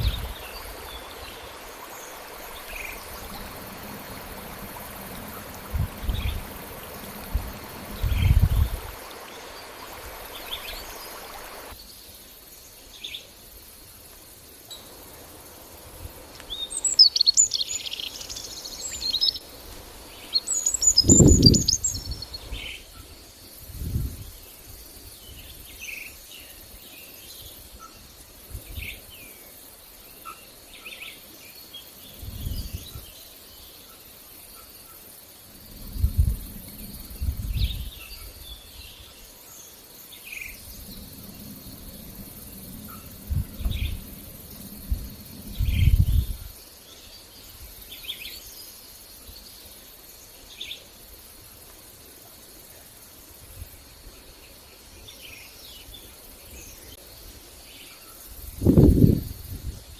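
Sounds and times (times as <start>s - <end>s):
songbirds chirping: 0.0s - 59.2s
faint forest ambience hiss: 0.0s - 59.9s.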